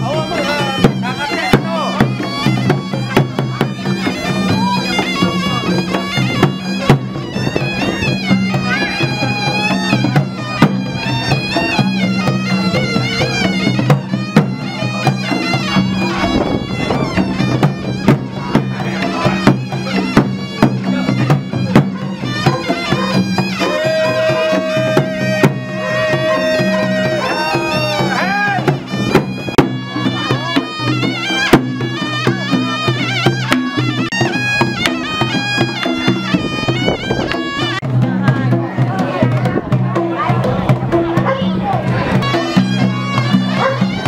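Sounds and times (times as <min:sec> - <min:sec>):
shrill reed wind instrument melody: 0:00.0 - 0:37.9, 0:40.0 - 0:44.0
drum strokes: 0:00.0 - 0:44.0.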